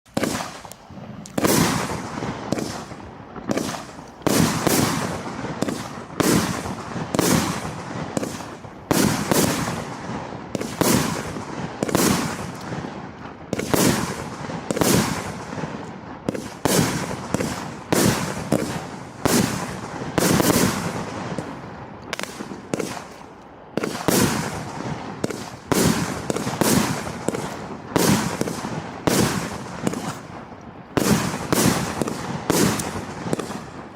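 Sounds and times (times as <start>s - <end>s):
firework bangs: 0.1s - 33.9s.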